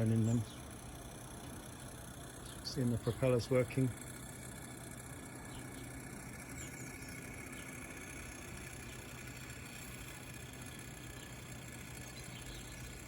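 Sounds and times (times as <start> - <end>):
toy propeller motor whirring: 0.0 - 13.0.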